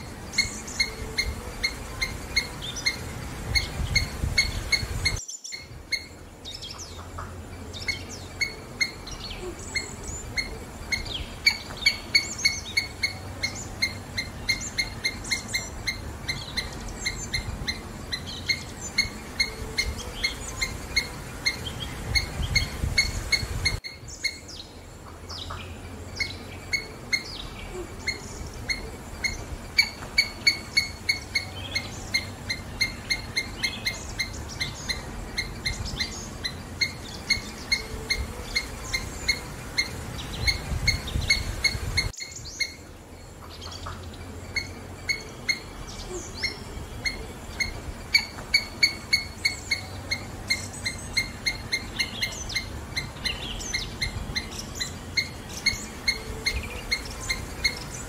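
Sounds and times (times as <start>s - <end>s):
repeated bird chip notes: 0.0s - 58.0s
songbirds chirping: 0.0s - 58.0s.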